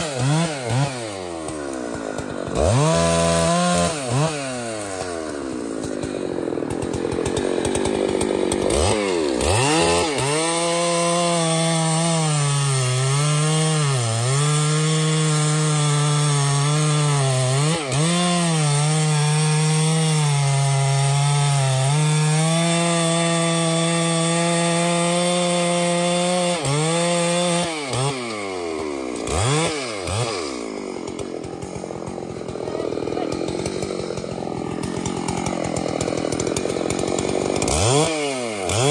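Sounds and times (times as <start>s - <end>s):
chainsaw cutting into tree trunk: 0.0s - 38.9s.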